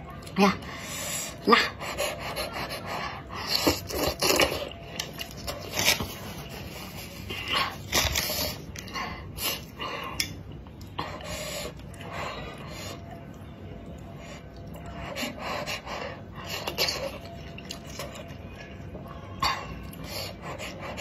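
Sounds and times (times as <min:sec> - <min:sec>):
wet chewing: 0:02.1 - 0:21.0.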